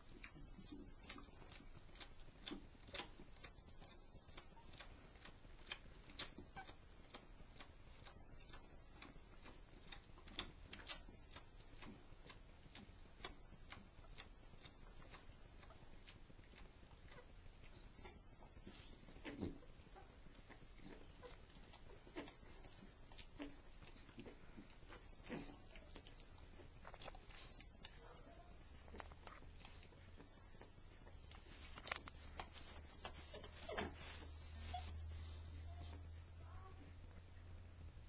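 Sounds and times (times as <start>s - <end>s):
puppies suckling clicks and smacks: 0.0s - 38.0s.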